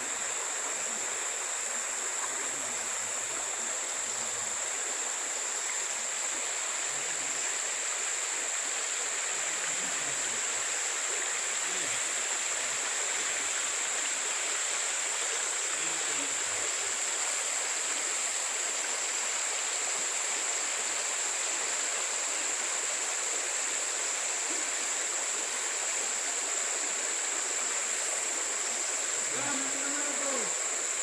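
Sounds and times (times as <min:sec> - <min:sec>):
high-pitched insect drone: 0:00.0 - 0:31.0
steady hiss: 0:00.0 - 0:31.0.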